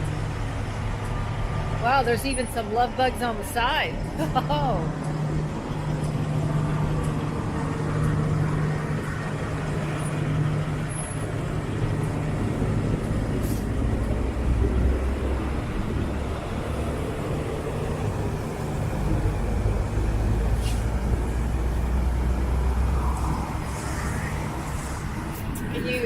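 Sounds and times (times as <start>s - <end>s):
deep engine rumble: 0.0s - 26.0s.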